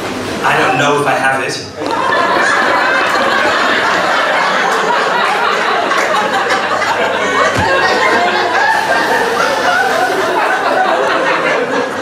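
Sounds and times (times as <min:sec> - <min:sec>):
audience laughing: 0:01.8 - 0:12.0.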